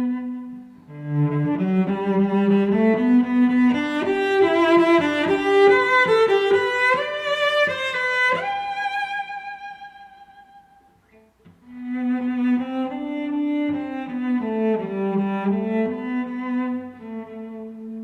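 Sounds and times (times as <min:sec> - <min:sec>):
instrumental music: 0:00.0 - 0:18.0.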